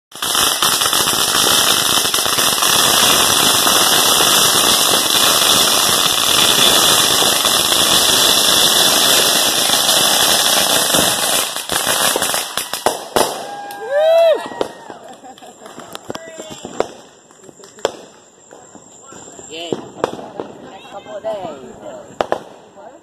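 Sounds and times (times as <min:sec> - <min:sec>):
firework crackling hiss: 0:00.1 - 0:23.0.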